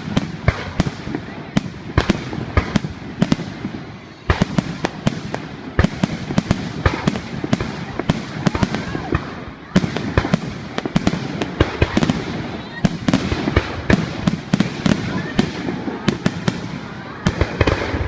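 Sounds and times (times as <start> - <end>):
fireworks bursting with crackle: 0.0 - 18.0.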